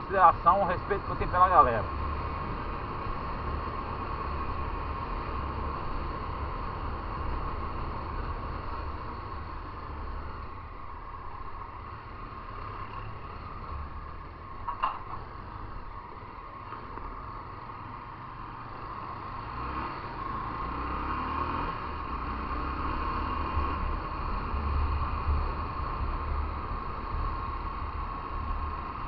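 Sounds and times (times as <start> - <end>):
motorcycle engine and road noise: 0.0 - 29.0.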